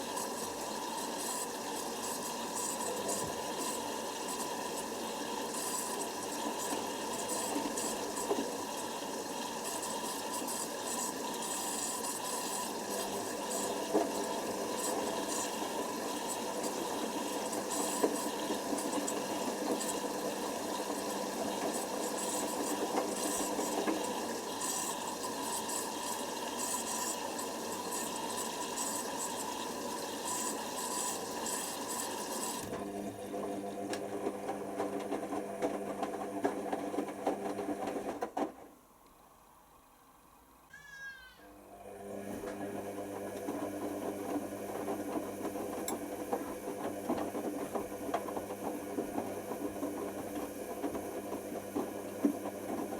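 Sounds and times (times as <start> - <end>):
washing machine motor hum: 0.0 - 38.9, 41.0 - 52.9.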